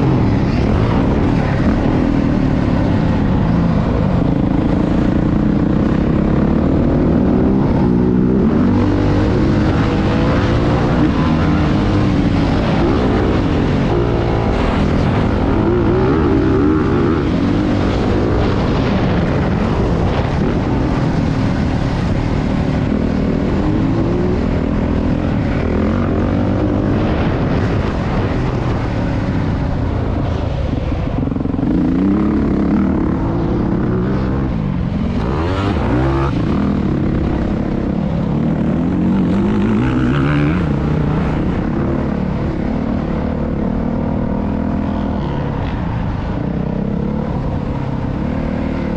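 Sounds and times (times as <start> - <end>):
dirt bike engine revving: 0.0 - 28.4, 31.6 - 45.6.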